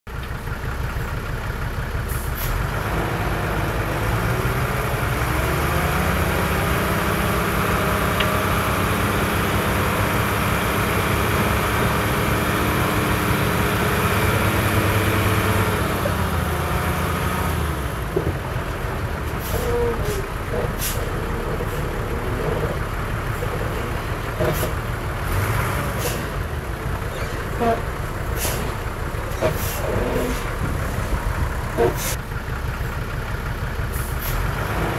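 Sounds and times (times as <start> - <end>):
heavy diesel engine revving: 0.6 - 34.9.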